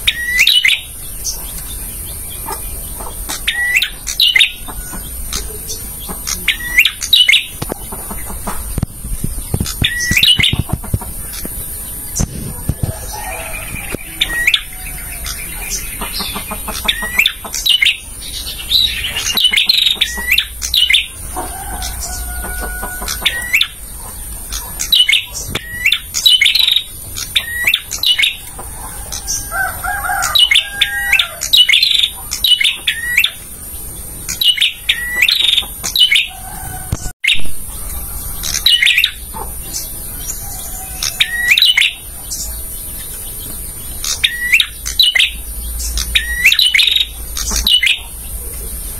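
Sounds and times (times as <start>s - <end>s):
bird chirping rapidly: 0.0s - 36.3s, 37.2s - 48.9s.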